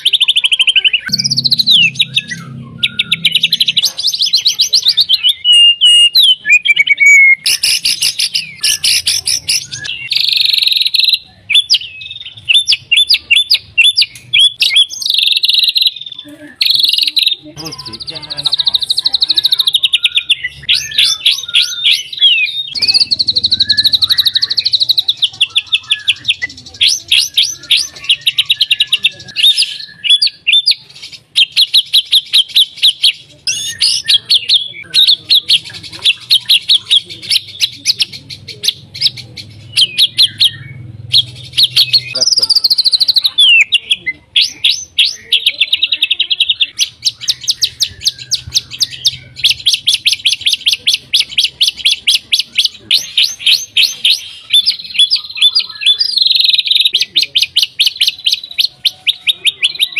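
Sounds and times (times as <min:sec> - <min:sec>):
songbird singing trills: 0:00.0 - 0:59.9.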